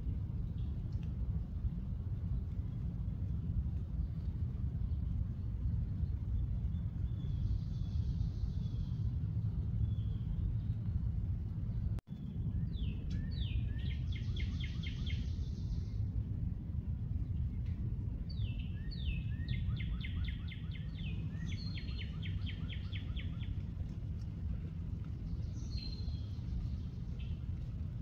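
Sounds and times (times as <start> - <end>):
songbird singing: 0.0 - 16.2, 17.1 - 28.0
steady low rumble: 0.0 - 28.0.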